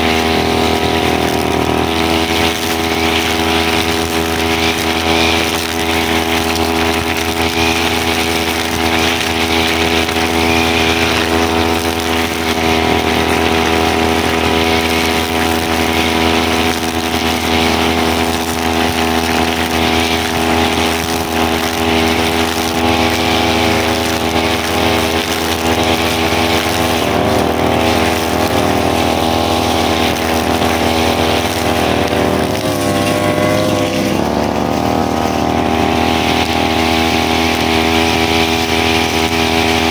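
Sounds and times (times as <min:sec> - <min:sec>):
brushcutter engine running: 0:00.0 - 0:39.9.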